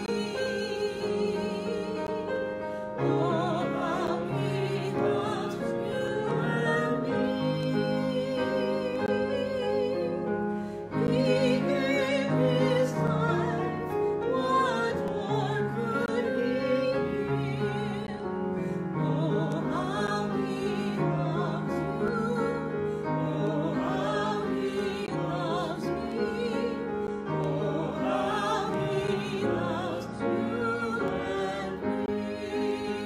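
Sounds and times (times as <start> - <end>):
woman singing a hymn: 0.0 - 18.3, 18.9 - 33.0
upright piano: 0.0 - 33.0.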